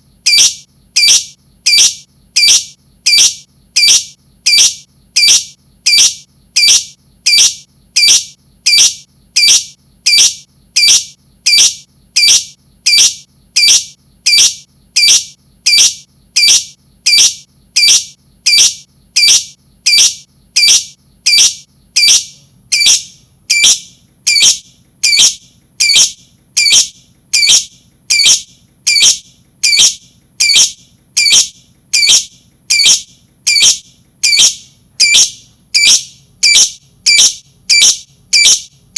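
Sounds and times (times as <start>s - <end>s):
lovebird shrill calls: 0.3s - 38.7s.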